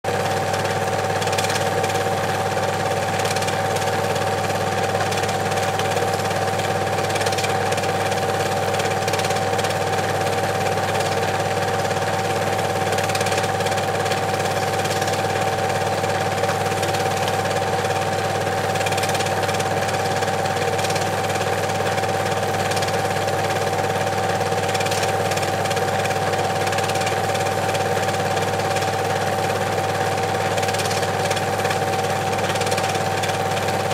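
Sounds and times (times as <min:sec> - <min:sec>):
film projector whirring: 0:00.0 - 0:33.9.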